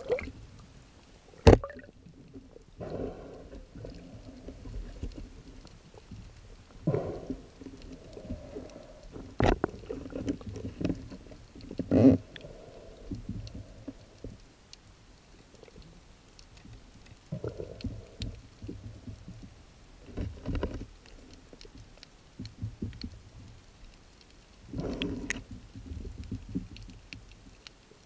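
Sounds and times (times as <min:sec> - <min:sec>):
muffled underwater knocks and clicks: 0:01.4 - 0:02.5, 0:03.8 - 0:14.5, 0:16.4 - 0:24.0, 0:24.7 - 0:27.8.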